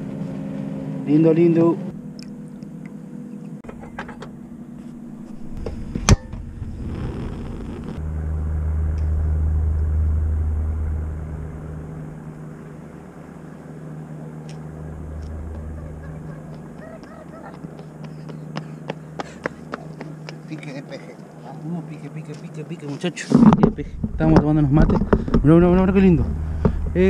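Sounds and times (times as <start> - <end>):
motor vehicle passing: 0.0 - 3.6, 4.3 - 27.0.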